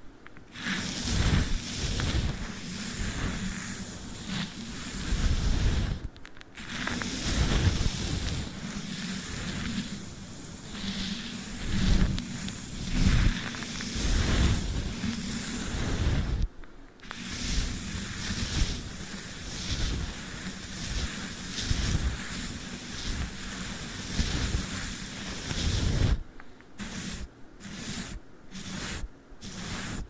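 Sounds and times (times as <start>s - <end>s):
brush scratching sticky tape: 0.5s - 30.0s.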